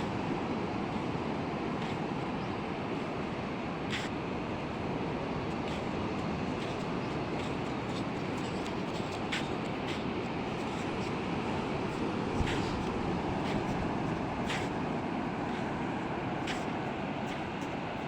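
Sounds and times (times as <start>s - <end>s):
sea waves washing on beach: 0.0s - 18.0s.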